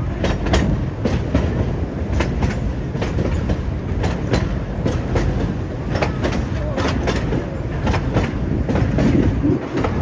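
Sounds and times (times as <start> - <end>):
train wheels rumbling on rail: 0.0 - 10.0
wheels clacking over rail joints: 0.0 - 10.0.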